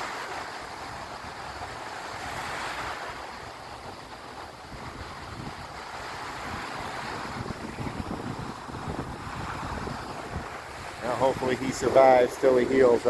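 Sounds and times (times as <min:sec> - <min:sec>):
waves washing onto beach: 0:00.0 - 0:13.0
wind buffeting microphone: 0:00.0 - 0:13.0.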